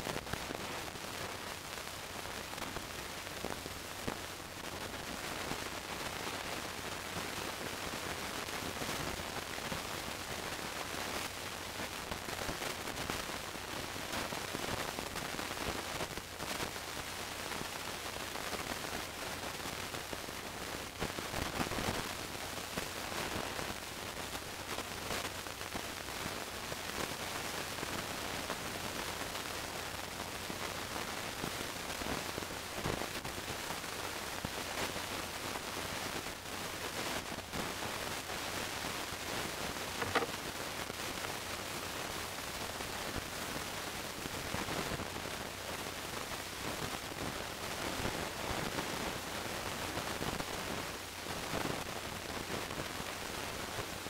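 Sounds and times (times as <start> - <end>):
static hiss: 0.0 - 54.0
faint crackles and clicks: 0.1 - 49.0.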